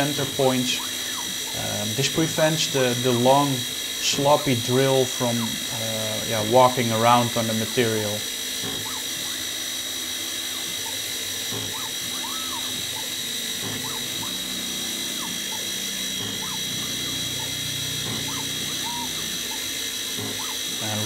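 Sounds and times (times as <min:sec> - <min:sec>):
milling spindle whine: 0:00.0 - 0:21.0.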